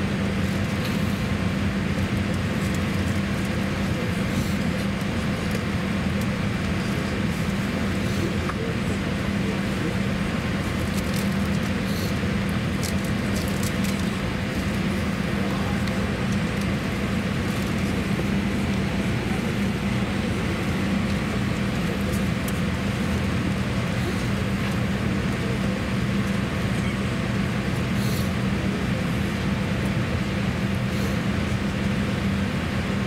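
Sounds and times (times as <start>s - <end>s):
aircraft cabin air rush: 0.0s - 33.0s
constant low hum: 0.0s - 33.0s.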